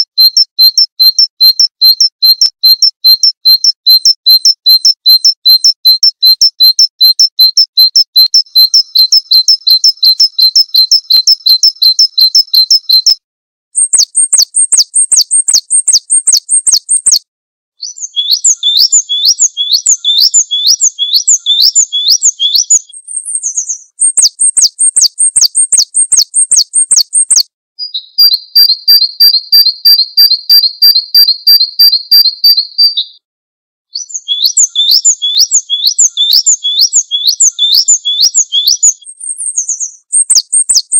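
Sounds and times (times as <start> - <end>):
songbirds chirping and trilling: 0.2 - 13.2, 13.8 - 17.2, 17.8 - 33.2, 33.9 - 40.9.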